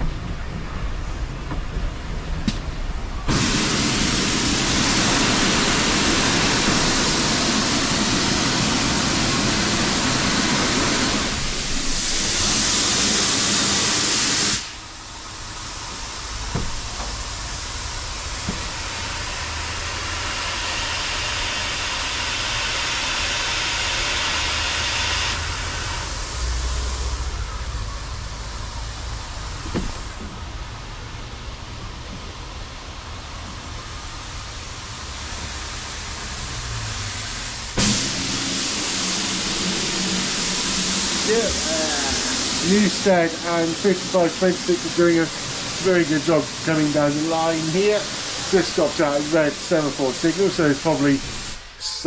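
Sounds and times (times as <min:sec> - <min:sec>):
loud steam hiss: 0:00.0 - 0:52.0
train running low rumble: 0:00.0 - 0:52.0.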